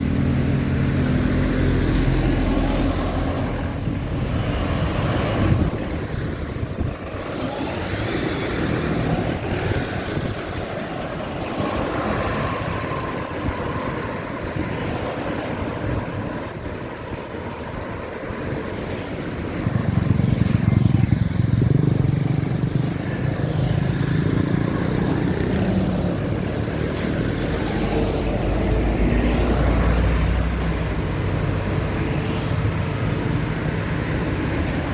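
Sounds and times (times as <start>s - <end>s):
heavy vehicle engine: 0.0s - 34.9s
road traffic passing: 0.0s - 34.9s.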